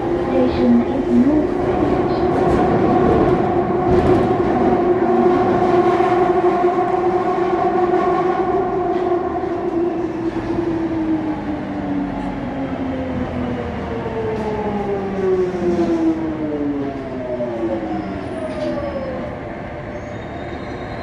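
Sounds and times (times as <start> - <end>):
train wheels rumbling: 0.0 - 19.4.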